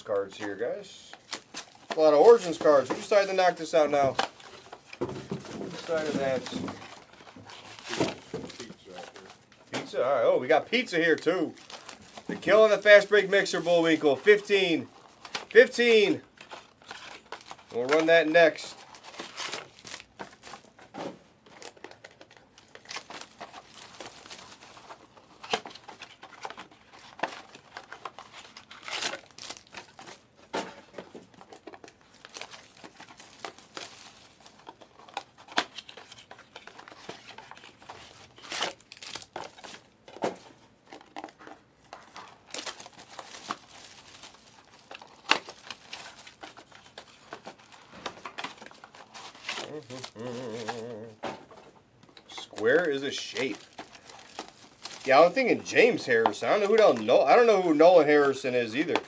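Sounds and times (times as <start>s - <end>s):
card pack wrappers crinkling: 0.0s - 59.0s.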